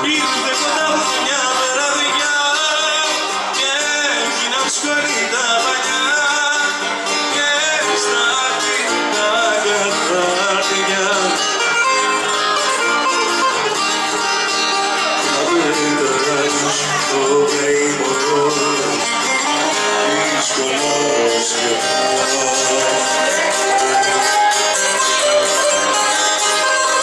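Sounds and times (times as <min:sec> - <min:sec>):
acoustic guitar: 0:00.0 - 0:27.0
plucked string instrument: 0:00.0 - 0:27.0.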